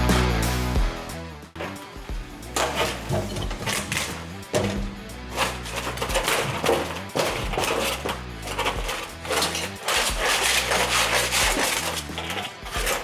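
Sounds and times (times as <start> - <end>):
tools scraping and knocking metal: 1.6 - 13.0.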